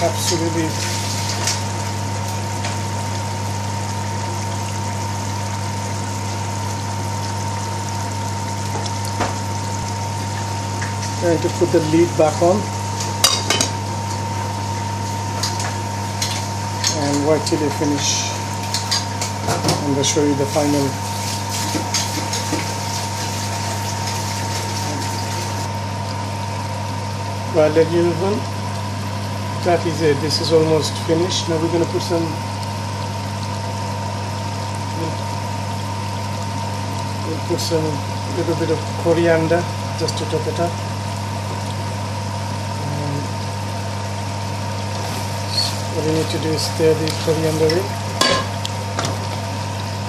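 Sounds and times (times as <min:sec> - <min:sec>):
gas burner hum: 0:00.0 - 0:50.0
pot simmering hiss: 0:00.0 - 0:50.0.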